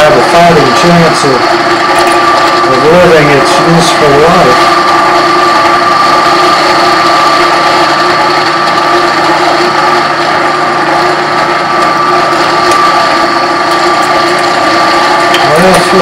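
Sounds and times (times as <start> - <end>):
drill press humming and whining: 0.0 - 16.0.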